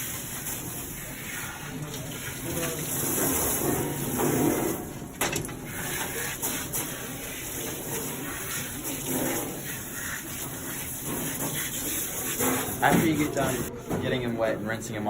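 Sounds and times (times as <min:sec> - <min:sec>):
water spraying onto dog's coat: 0:00.0 - 0:13.7.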